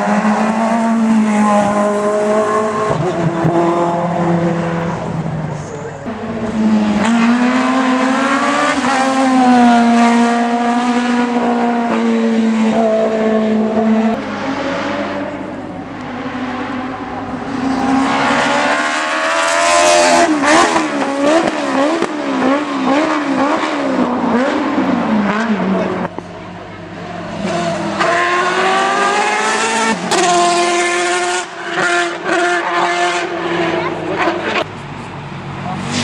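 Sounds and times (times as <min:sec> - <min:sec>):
race car engine at high revs: 0:00.0 - 0:36.0.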